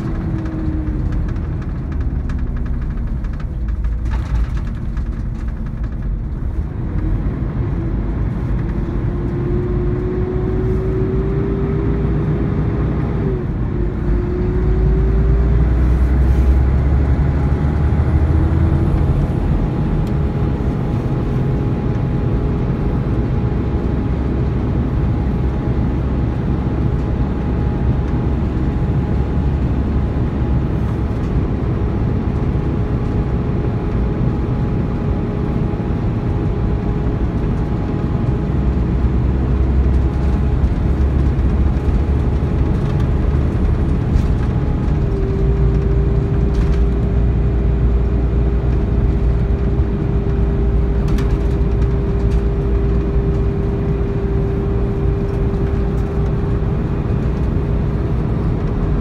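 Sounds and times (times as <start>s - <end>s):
coach engine and road rumble: 0.0s - 59.0s.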